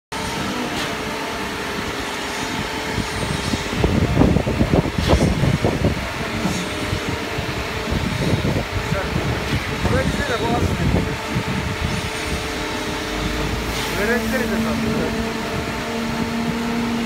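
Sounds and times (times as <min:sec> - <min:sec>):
diesel and hydraulic drone: 0:00.1 - 0:17.0.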